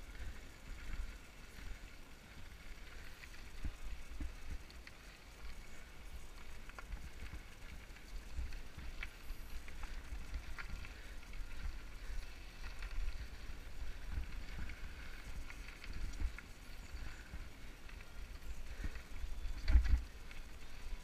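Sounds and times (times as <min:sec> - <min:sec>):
mountain bike rolling on gravel: 0:00.0 - 0:21.0
bike frame clicks and rattles: 0:02.5 - 0:21.0.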